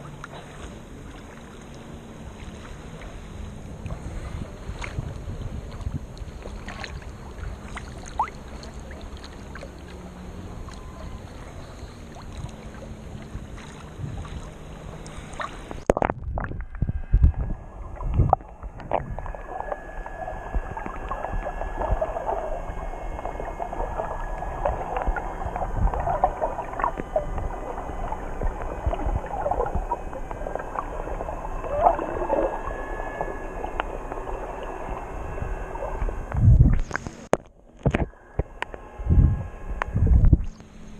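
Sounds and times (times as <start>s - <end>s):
muffled sea water: 0.0s - 40.9s
underwater crackling: 4.8s - 38.8s.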